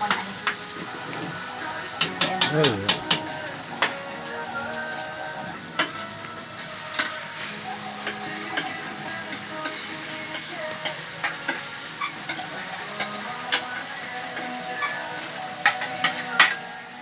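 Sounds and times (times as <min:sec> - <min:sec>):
spatula scraping a pan: 0:00.0 - 0:04.0, 0:05.4 - 0:16.7
vegetables sizzling in a pan: 0:00.0 - 0:17.0.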